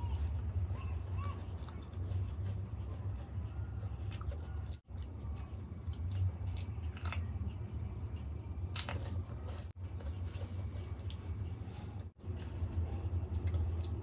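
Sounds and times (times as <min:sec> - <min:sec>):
chewing with wet mouth sounds: 0:00.0 - 0:14.0
steady low hum: 0:00.0 - 0:14.0.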